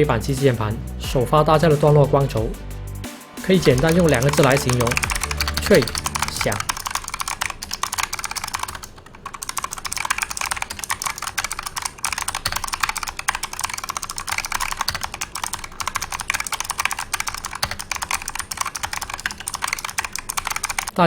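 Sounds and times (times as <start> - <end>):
fast typing on clicky keyboard: 3.5 - 21.0.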